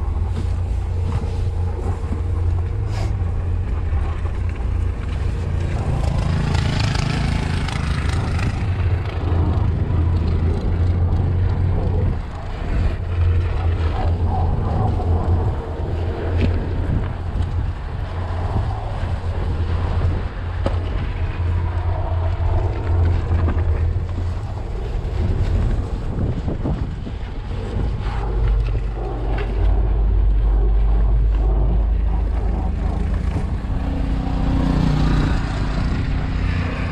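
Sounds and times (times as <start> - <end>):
vehicle rumbling through snow: 0.0 - 36.9
wind on microphone: 0.0 - 36.9.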